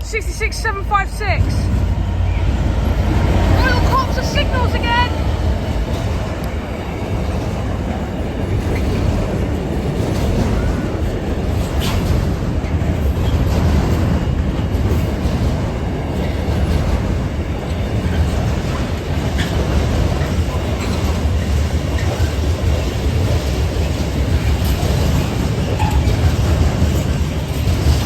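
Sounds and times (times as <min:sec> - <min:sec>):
freight train rumbling: 0:00.0 - 0:28.0.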